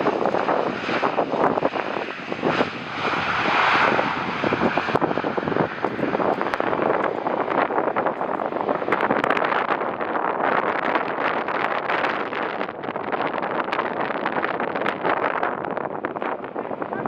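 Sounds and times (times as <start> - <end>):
jet airliner engine noise: 0.0 - 17.0.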